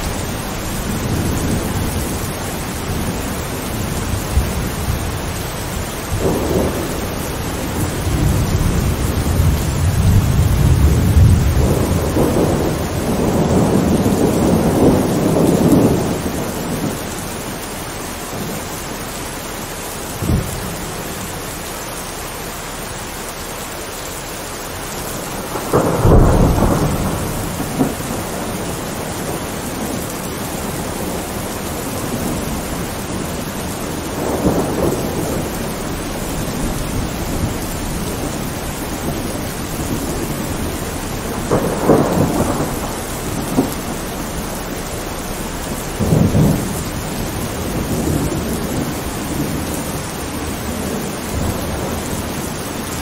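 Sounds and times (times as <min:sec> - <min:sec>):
thunder rumbling: 0:00.0 - 0:23.1, 0:23.7 - 0:53.0
steady rain falling: 0:00.0 - 0:53.0.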